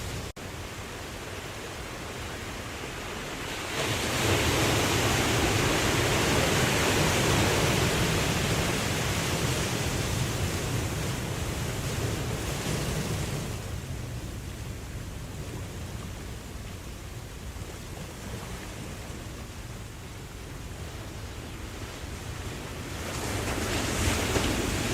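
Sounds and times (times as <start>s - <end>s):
ocean wave breaking: 0.0s - 14.4s, 15.0s - 24.9s.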